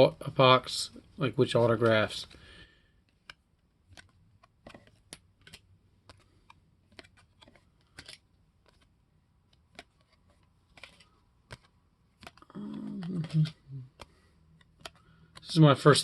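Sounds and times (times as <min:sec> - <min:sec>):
trading cards being handled: 0:00.9 - 0:16.0.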